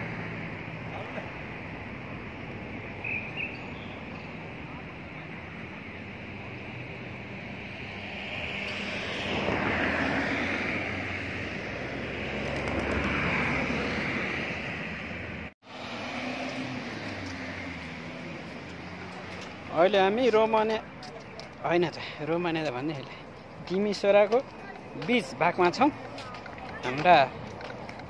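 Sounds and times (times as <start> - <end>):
passing vehicle rush: 0.0 - 28.0.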